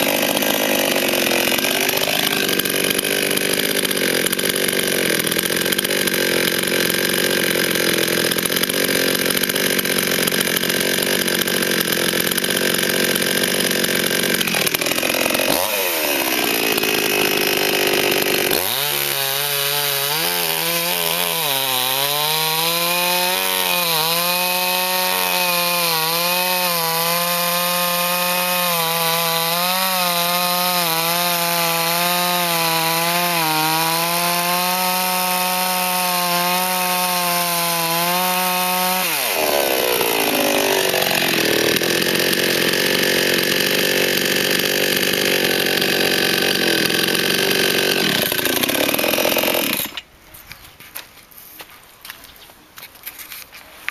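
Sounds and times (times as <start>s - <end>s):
chainsaw cutting wood: 0.0s - 50.1s.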